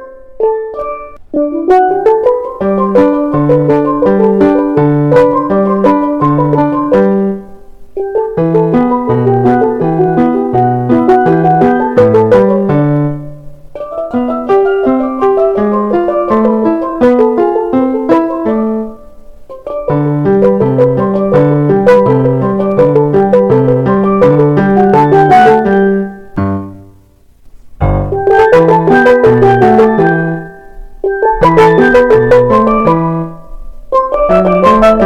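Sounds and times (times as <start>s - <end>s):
instrumental music with bass line: 0.0s - 35.0s.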